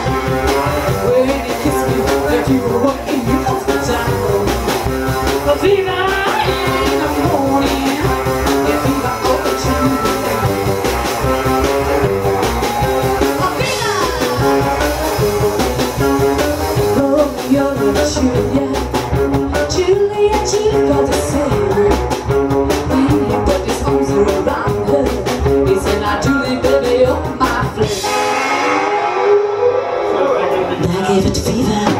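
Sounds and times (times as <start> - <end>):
live band playing blues rock: 0.0 - 31.9.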